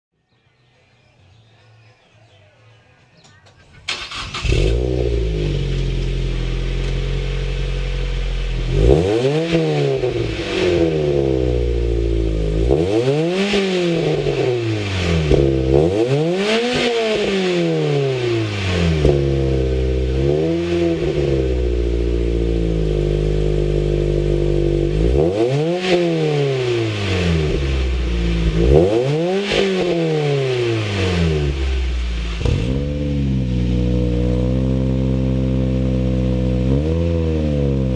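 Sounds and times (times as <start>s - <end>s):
car engine idling and revving: 3.9s - 37.9s.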